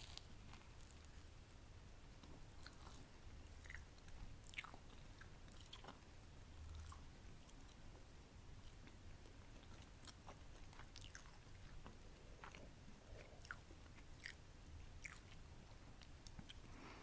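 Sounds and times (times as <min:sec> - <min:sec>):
crunchy chewing: 0:00.0 - 0:01.6, 0:02.2 - 0:07.9, 0:08.6 - 0:16.8.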